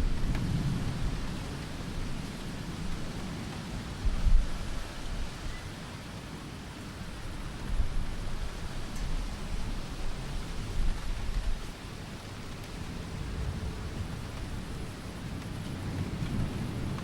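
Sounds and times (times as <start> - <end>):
low thunder rumble: 0.0 - 5.6, 7.2 - 17.0
steady rain hiss: 0.0 - 17.0.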